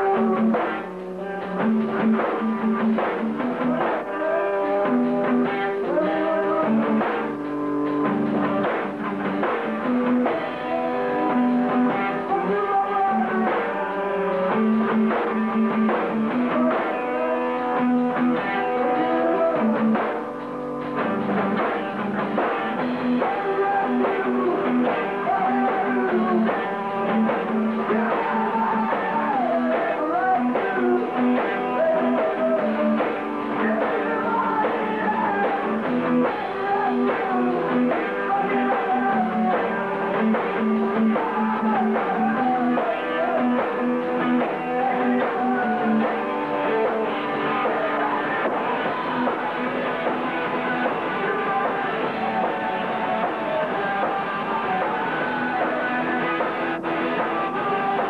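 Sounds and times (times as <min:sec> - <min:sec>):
muffled live rock band: 0:00.0 - 0:58.0.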